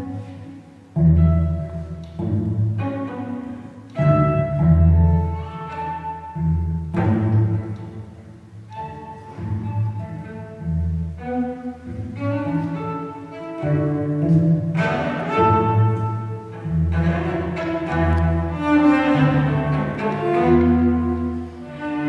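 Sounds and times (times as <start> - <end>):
bowed cello melody: 0.0 - 22.0.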